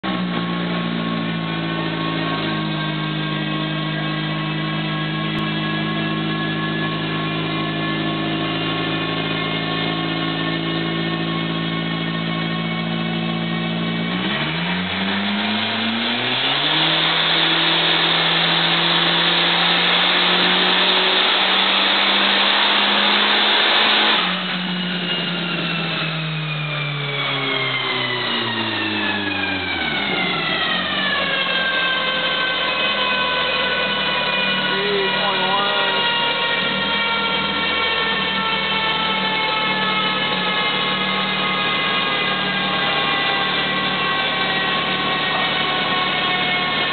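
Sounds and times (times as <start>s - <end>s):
car engine full-throttle run: 0.0s - 46.9s
dynamometer rollers whine: 0.9s - 46.9s.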